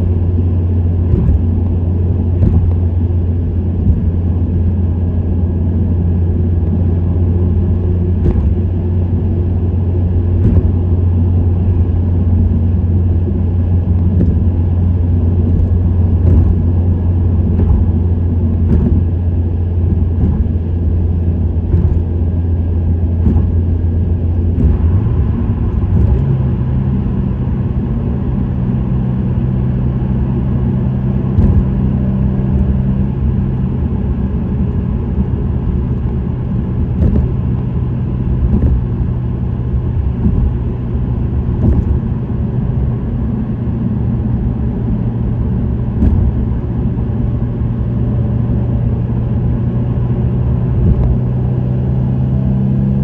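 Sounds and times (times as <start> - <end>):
car exhaust drone: 0.0 - 53.0
road noise: 0.0 - 53.0.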